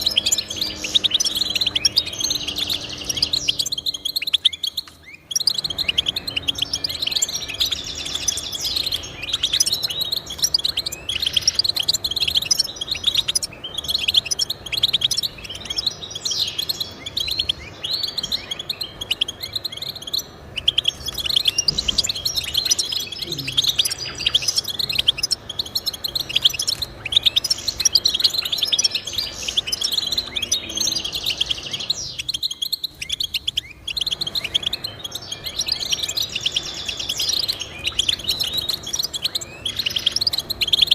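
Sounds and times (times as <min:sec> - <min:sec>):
goldfinch twittering song: 0:00.0 - 0:40.9.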